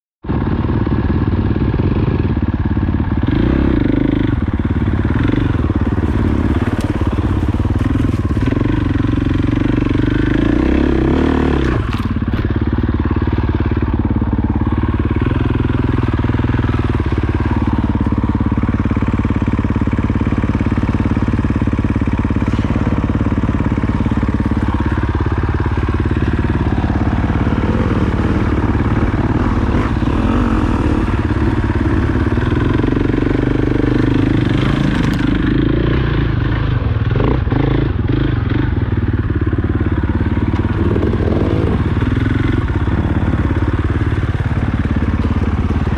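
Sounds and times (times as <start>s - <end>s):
dirt bike engine revving: 1.4s - 45.9s.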